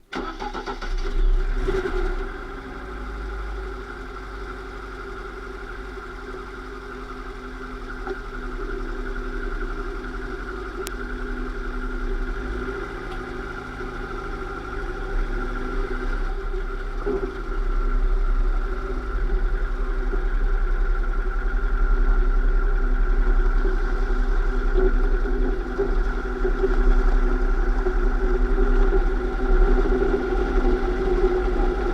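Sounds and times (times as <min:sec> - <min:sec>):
low drivetrain rumble: 0:00.0 - 0:31.9
transmission whine: 0:00.0 - 0:31.9.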